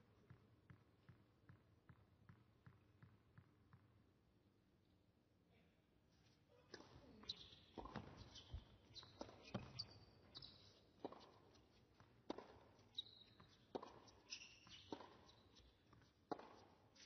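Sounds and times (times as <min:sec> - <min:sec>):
tennis ball bouncing on court: 0:00.2 - 0:04.0, 0:06.7 - 0:17.0.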